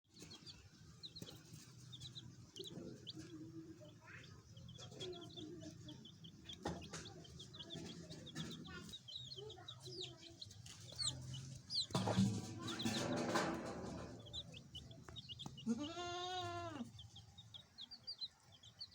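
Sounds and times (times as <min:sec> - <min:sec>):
chicks peeping: 0:00.1 - 0:18.9
hen clucking: 0:00.2 - 0:18.9.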